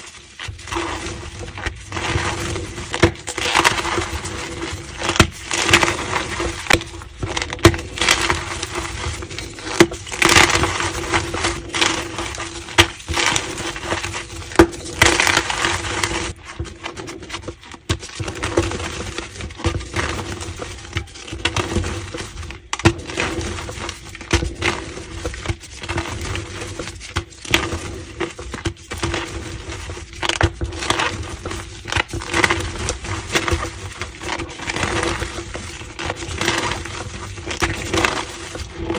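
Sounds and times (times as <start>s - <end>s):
chalk being crushed: 0.0s - 38.9s.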